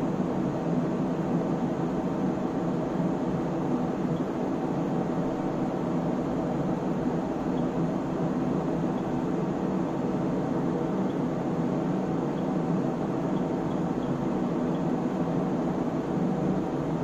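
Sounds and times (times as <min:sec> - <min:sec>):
cooling fans whirring: 0:00.0 - 0:17.0.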